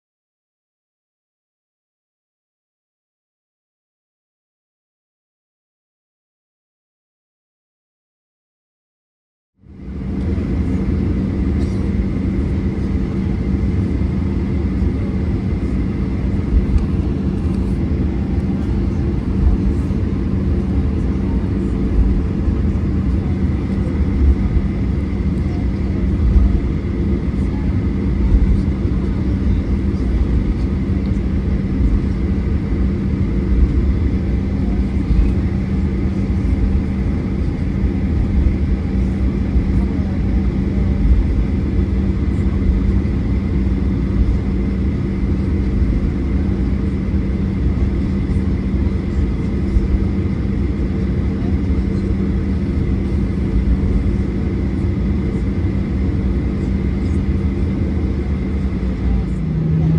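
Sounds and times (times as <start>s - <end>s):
airliner cabin engine rumble: 9.6s - 59.9s.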